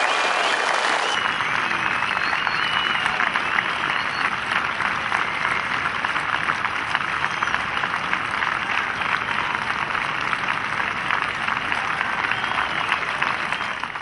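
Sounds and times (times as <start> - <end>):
large crowd applauding: 0.0 - 14.0.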